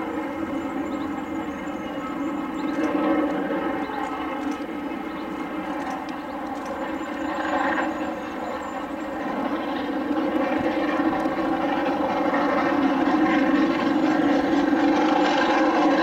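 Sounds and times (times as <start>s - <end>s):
steam locomotive working hard: 0.0s - 16.0s.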